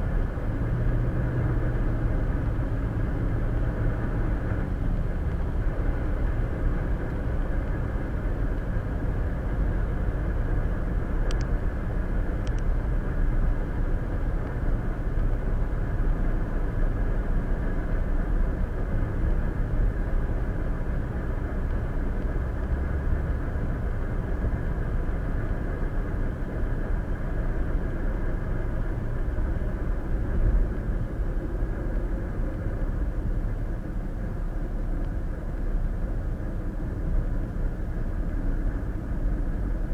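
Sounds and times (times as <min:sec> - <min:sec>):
car road and tyre noise: 0:00.0 - 0:39.9.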